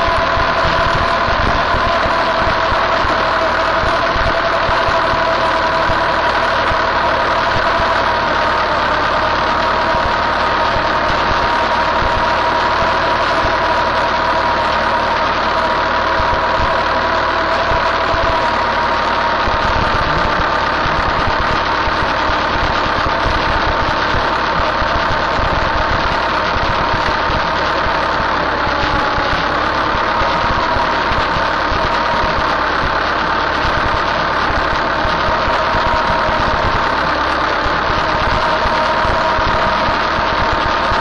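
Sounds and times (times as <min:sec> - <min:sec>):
constant whine: 0:00.0 - 0:41.0
tractor engine running: 0:00.0 - 0:41.0.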